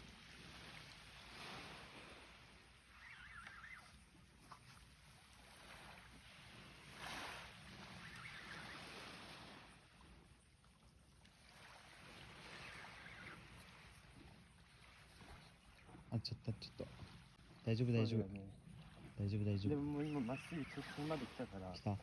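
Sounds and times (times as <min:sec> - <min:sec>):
faint waves washing on shore: 0:00.0 - 0:22.0.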